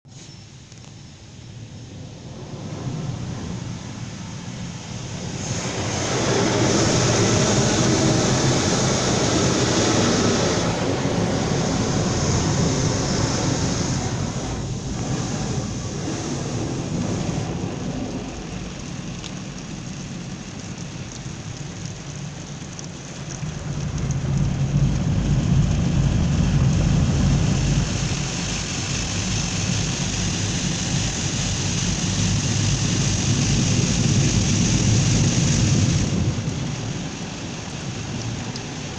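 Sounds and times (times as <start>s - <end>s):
pulsing machine rumble: 2.0s - 38.9s
spraying water: 2.1s - 38.9s.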